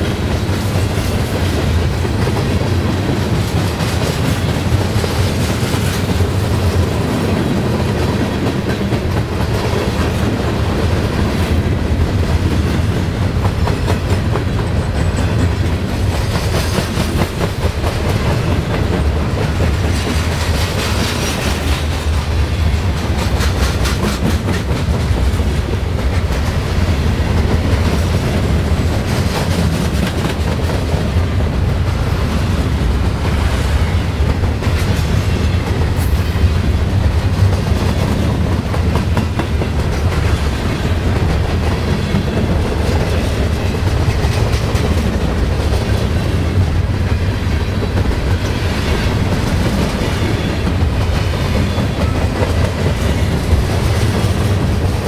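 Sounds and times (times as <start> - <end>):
train wheels rumbling on rail: 0.0 - 55.0
wheels clacking over rail joints: 0.0 - 55.0.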